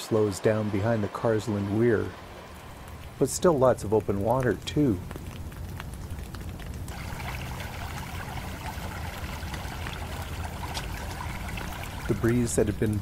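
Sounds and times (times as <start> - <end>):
rain falling: 0.0 - 13.0
river water running: 0.0 - 13.0.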